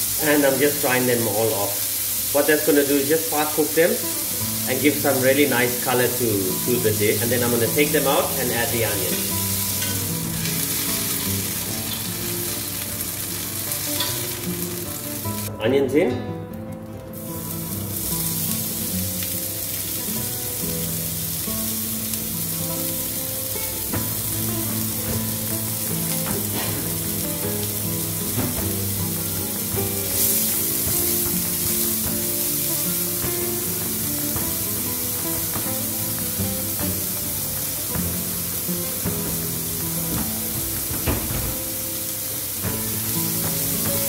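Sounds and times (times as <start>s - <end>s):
onion sizzling in pan: 0.0s - 15.5s, 16.5s - 44.0s
background music: 0.0s - 44.0s.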